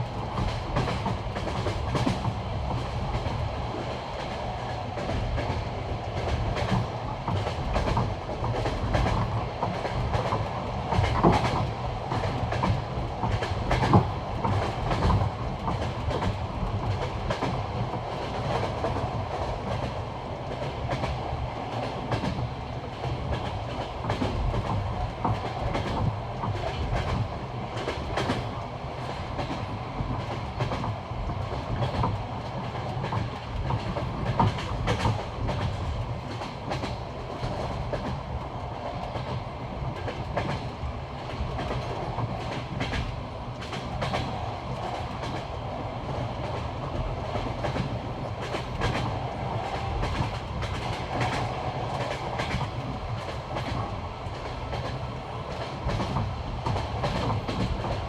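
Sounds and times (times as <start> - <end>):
train carriage rumble: 0.0 - 58.0
train wheels clickety-clack on rail joints: 0.0 - 58.0.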